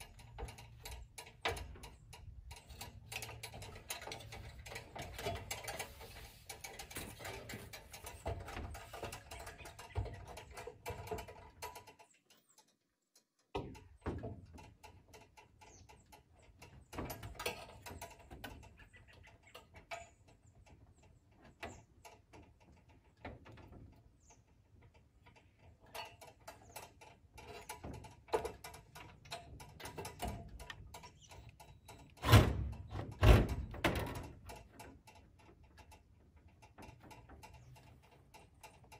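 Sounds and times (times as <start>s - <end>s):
knocks and rattles on metal siding: 0.0s - 38.9s.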